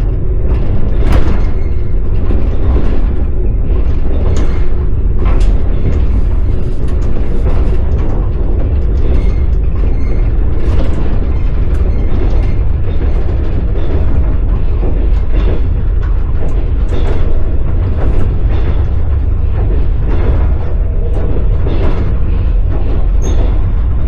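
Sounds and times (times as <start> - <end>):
heavy train rumble: 0.0 - 24.0
short knocks and rattles: 0.0 - 24.0
train wheels clattering on rails: 0.0 - 24.0.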